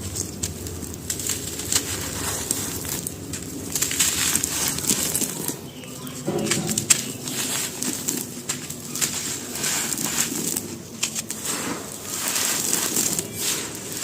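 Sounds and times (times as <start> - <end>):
charcoal and chalk crumbling: 0.0 - 14.0.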